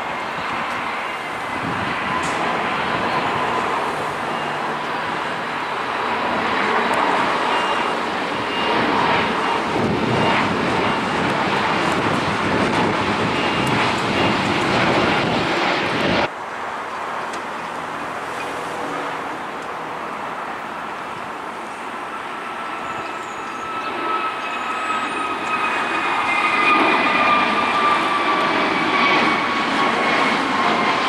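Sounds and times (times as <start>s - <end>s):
high engine whine: 0.0s - 31.0s
jet airliner roar: 0.0s - 31.0s.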